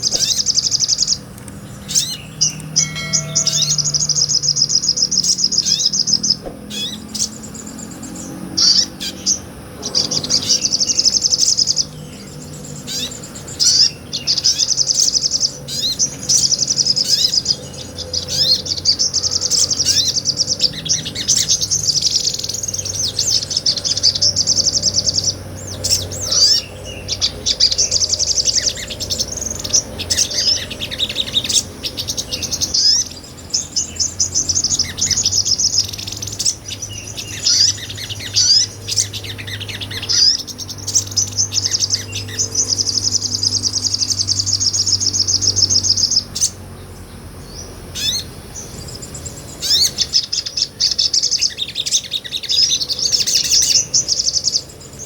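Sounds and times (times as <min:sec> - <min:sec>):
songbird chattering trills: 0:00.0 - 0:55.0.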